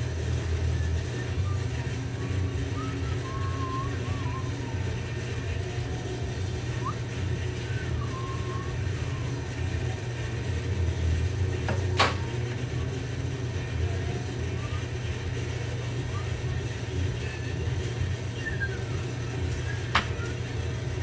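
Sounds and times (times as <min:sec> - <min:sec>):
wood lathe running: 0:00.0 - 0:21.0.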